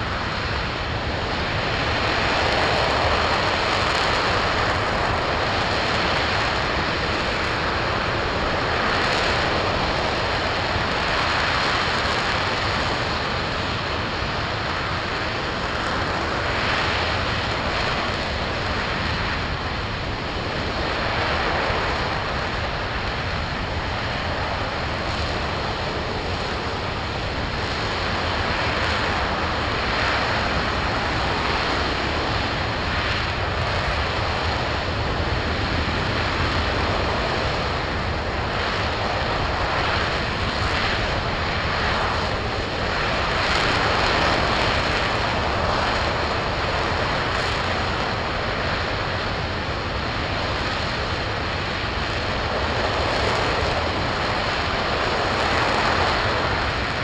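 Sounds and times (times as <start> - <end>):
rocket engine roaring: 0.0 - 57.0.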